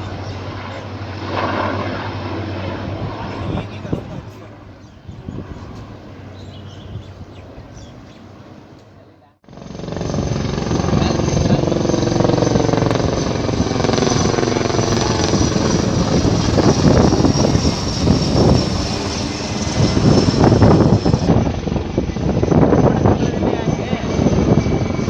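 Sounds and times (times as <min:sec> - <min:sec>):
helicopter rotor beating: 0:00.0 - 0:08.8, 0:09.4 - 0:25.0
high turbine whine: 0:00.0 - 0:08.8, 0:09.5 - 0:25.0.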